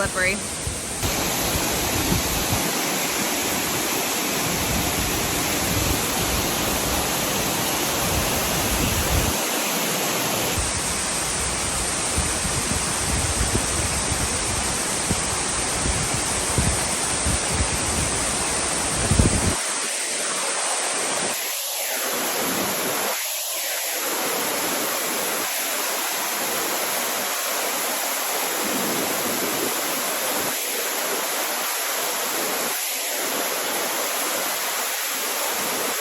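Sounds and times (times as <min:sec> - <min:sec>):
waterfall rushing: 0:00.0 - 0:23.2, 0:23.8 - 0:36.0.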